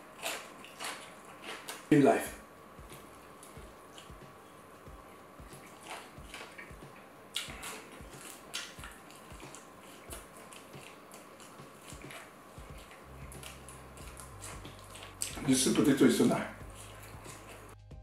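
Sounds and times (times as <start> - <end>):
wet chewing: 0.0 - 1.9, 2.8 - 17.8.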